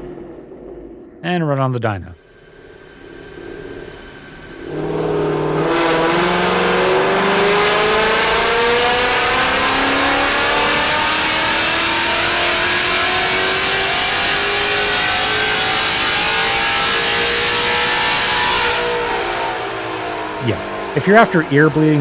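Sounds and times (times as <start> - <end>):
car engine at full throttle: 2.6 - 22.0.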